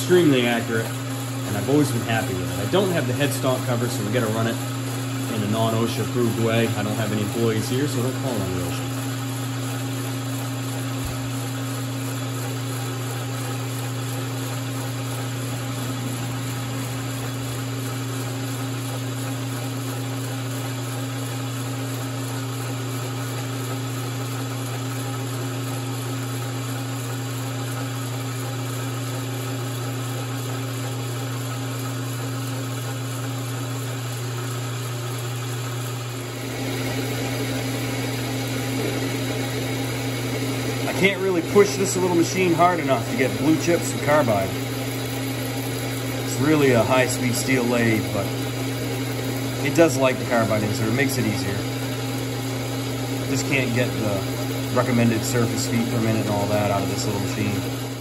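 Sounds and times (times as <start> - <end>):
lathe motor hum: 0.0 - 58.0
lathe tool cutting metal: 0.0 - 58.0.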